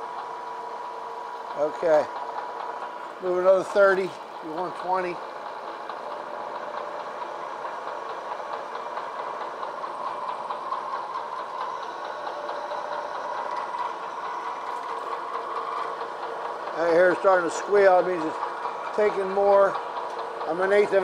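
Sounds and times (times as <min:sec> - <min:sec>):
milling machine cutting metal: 0:00.0 - 0:21.0.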